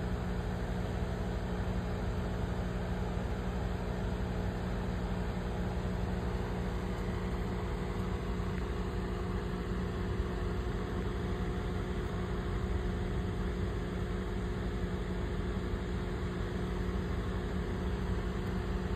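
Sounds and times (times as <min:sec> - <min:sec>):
aquarium equipment humming: 0:00.0 - 0:18.9.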